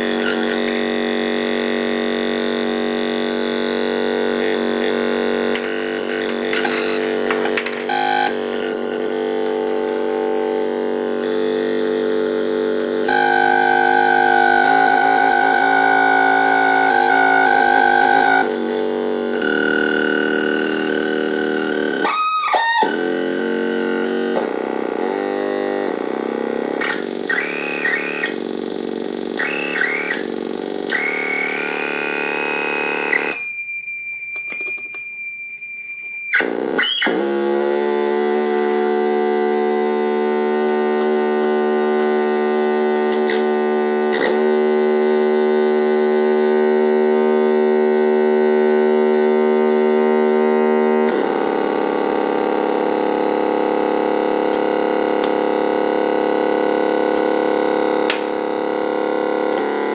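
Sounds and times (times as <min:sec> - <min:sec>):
synthesizer buzzing: 0:00.0 - 0:59.9.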